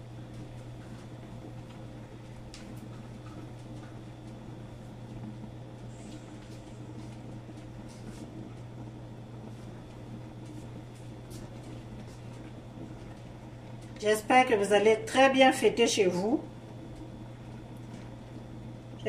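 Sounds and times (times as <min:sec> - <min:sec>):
low appliance hum: 0:00.0 - 0:19.0
stovetop ticks and crackles: 0:00.0 - 0:19.0.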